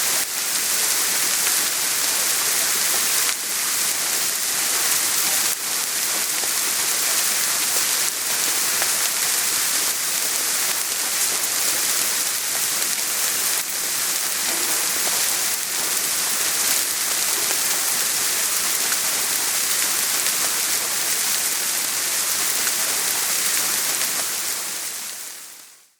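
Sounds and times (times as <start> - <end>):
soft rain falling: 0.0 - 25.9.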